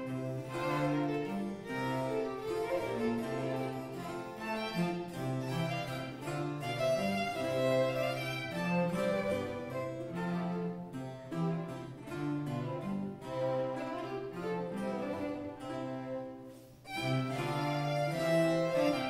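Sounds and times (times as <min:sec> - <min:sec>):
harpsichord: 0:00.0 - 0:16.3, 0:16.9 - 0:19.0
baroque cello: 0:00.0 - 0:19.0
baroque guitar: 0:00.0 - 0:19.0
baroque violins: 0:00.0 - 0:19.0.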